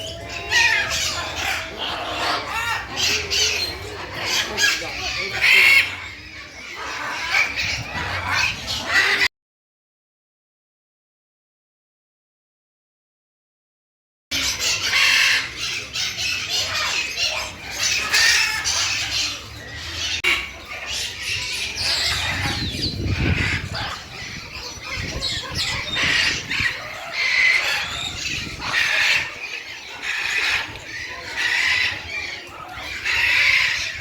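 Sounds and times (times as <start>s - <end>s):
birds squawking and chirping: 0.0s - 9.3s, 14.3s - 34.0s.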